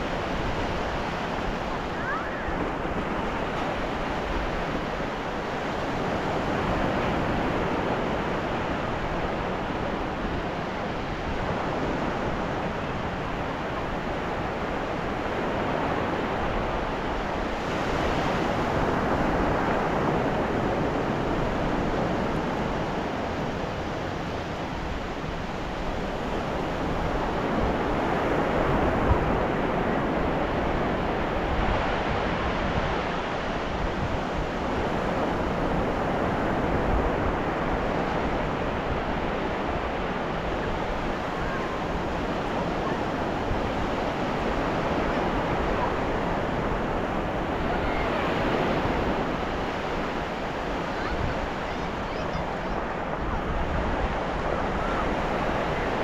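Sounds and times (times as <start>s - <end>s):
ocean surf on beach: 0.0s - 56.0s.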